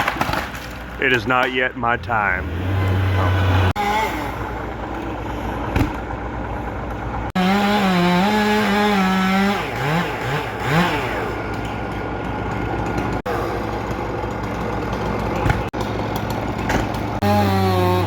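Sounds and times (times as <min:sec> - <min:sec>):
chainsaw revving: 0:02.2 - 0:18.0.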